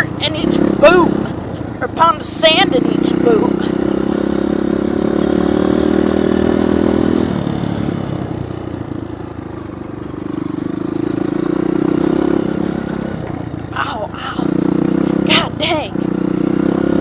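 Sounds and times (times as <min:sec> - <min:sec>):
dirt bike engine revving: 0:00.0 - 0:09.3, 0:10.1 - 0:17.0.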